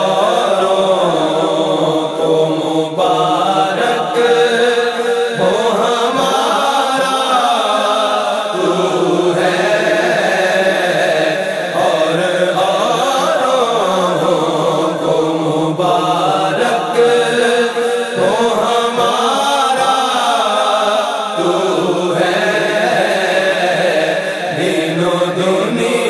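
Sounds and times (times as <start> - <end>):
man singing devotional chant: 0.0 - 26.0.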